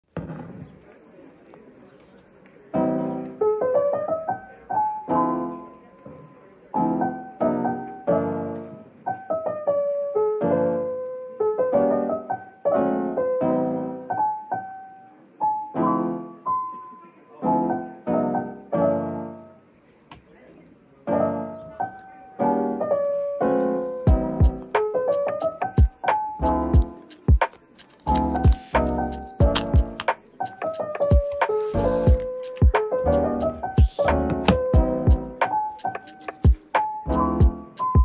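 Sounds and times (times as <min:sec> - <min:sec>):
piano chords: 0:02.6 - 0:19.8, 0:21.0 - 0:38.0.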